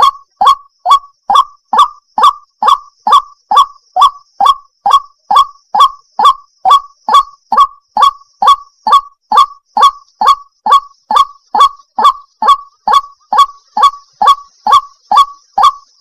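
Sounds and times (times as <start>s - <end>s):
bird call with harsh notes: 0.0s - 16.0s.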